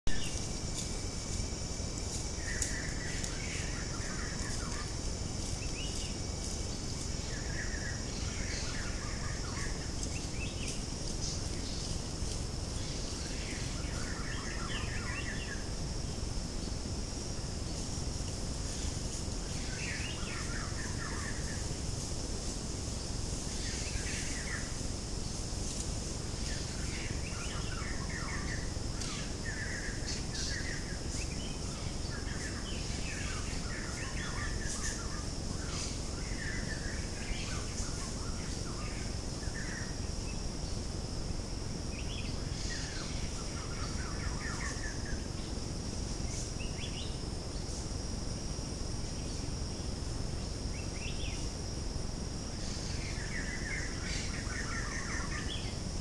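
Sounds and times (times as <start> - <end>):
steady high hiss: 0.1 - 56.0
wild birds chirping: 0.1 - 56.0.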